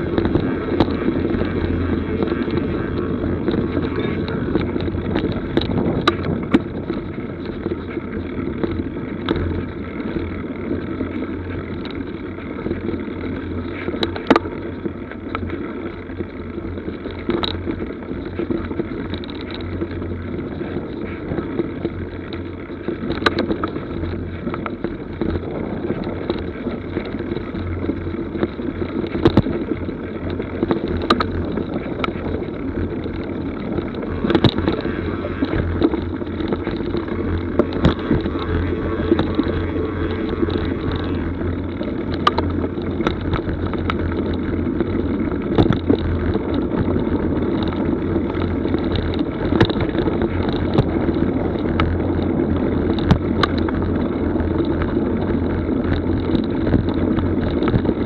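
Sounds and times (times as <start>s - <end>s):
bike knocks and rattles: 0.0s - 58.0s
bike tyres rumbling on dirt: 0.0s - 58.0s.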